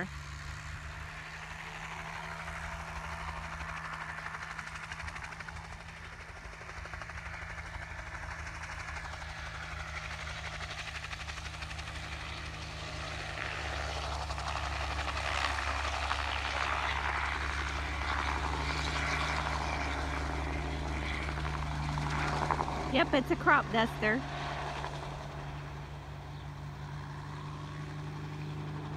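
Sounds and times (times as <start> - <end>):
helicopter engine and rotor: 0.0 - 28.9.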